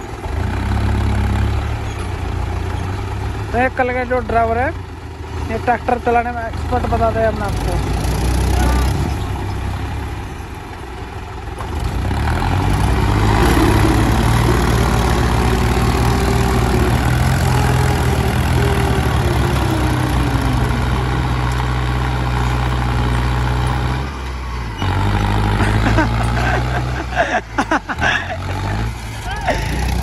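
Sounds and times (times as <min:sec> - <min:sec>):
second tractor engine: 0:00.0 - 0:30.0
tractor diesel engine straining: 0:00.0 - 0:30.0.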